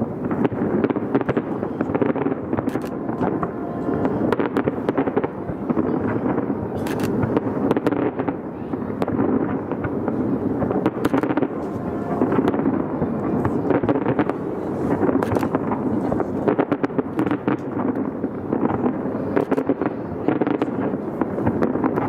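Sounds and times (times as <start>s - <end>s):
continuous rumble: 0.0s - 22.0s
fireworks bangs and crackles: 0.0s - 22.0s.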